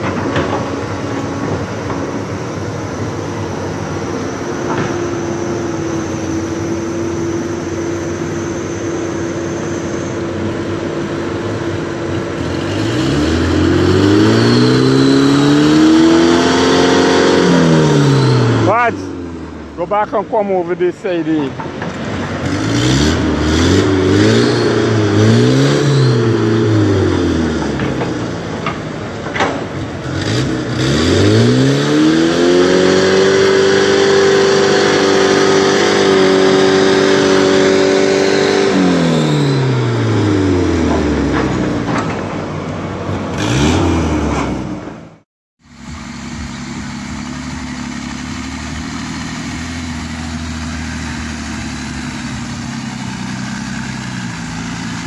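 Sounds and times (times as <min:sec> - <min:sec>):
low engine drone: 0:00.0 - 0:55.0
truck engine revving: 0:00.0 - 0:55.0.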